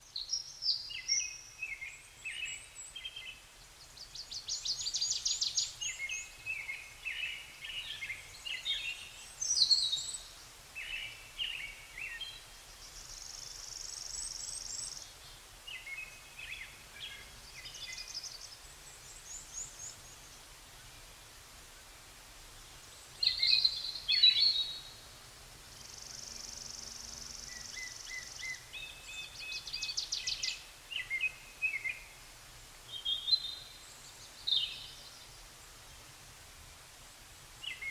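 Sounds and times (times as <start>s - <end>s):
songbirds singing: 0.0s - 36.2s, 37.6s - 37.9s.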